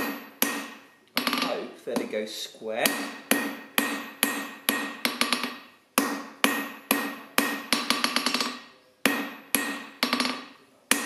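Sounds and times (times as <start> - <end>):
anvil ringing: 0.0 - 1.7, 2.8 - 11.0
hammer striking steel on anvil: 0.0 - 2.1, 2.8 - 11.0.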